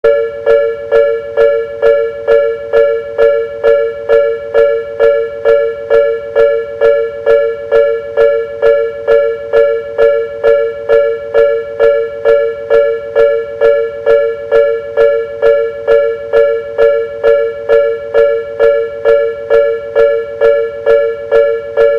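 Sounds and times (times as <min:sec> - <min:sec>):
level crossing warning bell: 0:00.0 - 0:21.9.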